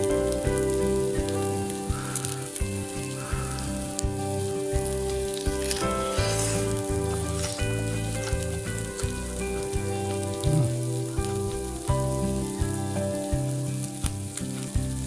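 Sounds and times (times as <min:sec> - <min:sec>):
background music sustained notes: 0:00.0 - 0:15.0
meat sizzling in a frying pan: 0:00.0 - 0:15.0.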